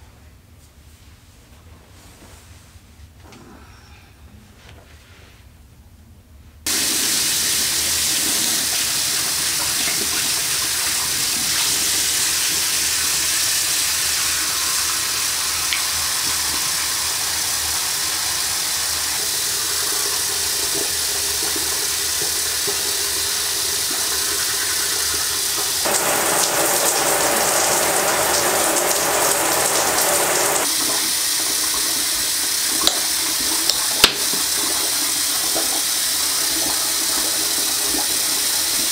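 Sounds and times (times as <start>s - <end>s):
faucet running into sink: 6.7s - 38.9s.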